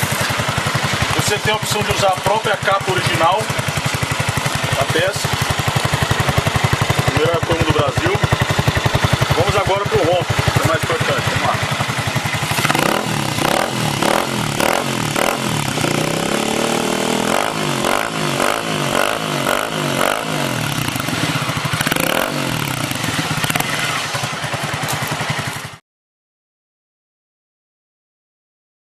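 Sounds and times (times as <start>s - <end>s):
motorcycle engine revving: 0.0s - 25.8s.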